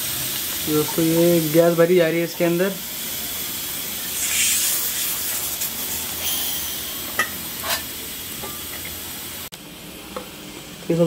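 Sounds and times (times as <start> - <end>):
refrigerant gas hissing: 0.0 - 11.0.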